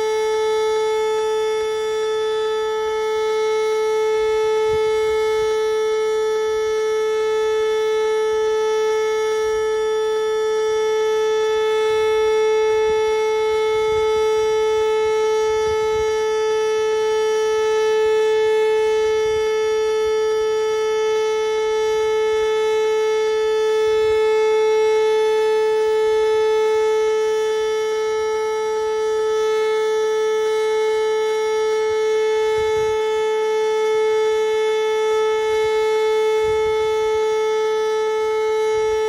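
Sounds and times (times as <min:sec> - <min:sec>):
warning siren steady tone: 0:00.0 - 0:39.0.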